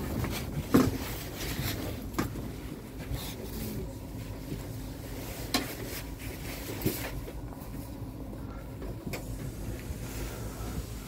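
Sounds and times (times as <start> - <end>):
low train interior hum: 0.0 - 11.0.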